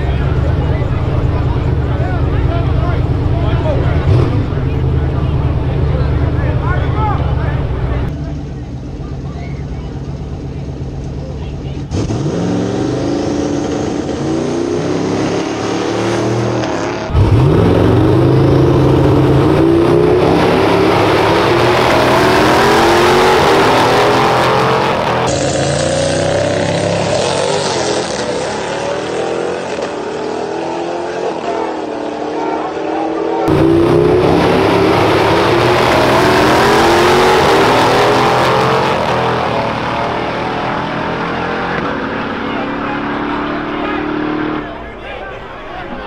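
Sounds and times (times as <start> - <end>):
cars accelerating at full throttle: 0.0 - 45.0.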